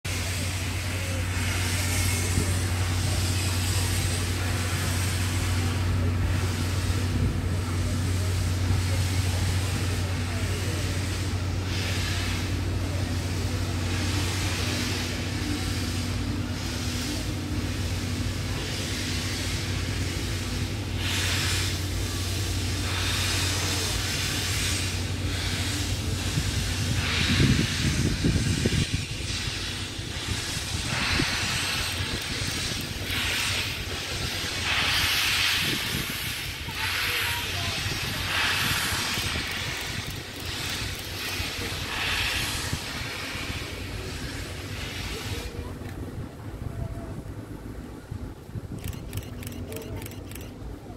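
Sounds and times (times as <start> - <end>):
steam locomotive hissing and puffing: 0.0 - 50.7
low engine drone: 0.0 - 50.9.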